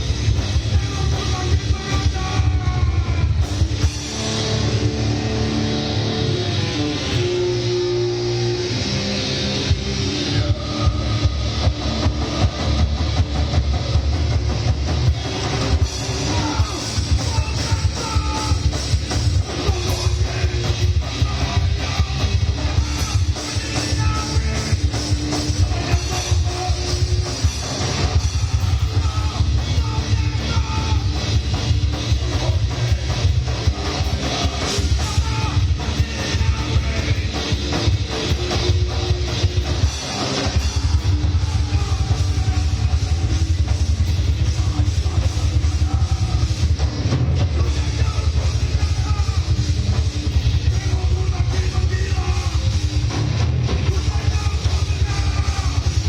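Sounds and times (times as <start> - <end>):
bass guitar: 0.0 - 56.0
distorted electric guitars: 0.0 - 56.0
drum kit: 0.0 - 56.0.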